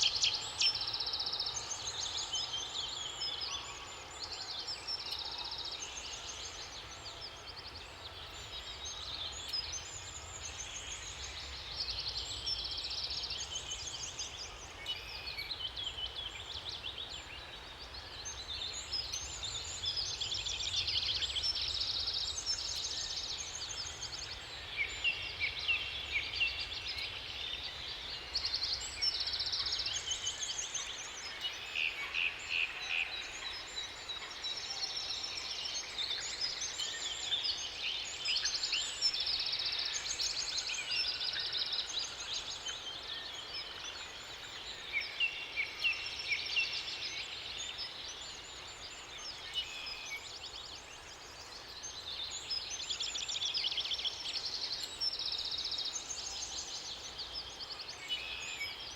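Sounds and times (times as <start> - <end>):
faint steady hiss: 0.0 - 58.9
songbirds singing: 0.0 - 58.9.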